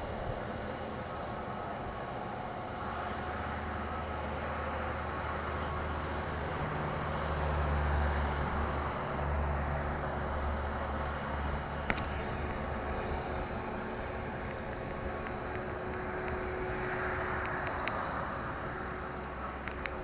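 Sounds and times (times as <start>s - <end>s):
jet engines rumbling and hissing: 0.0s - 20.0s.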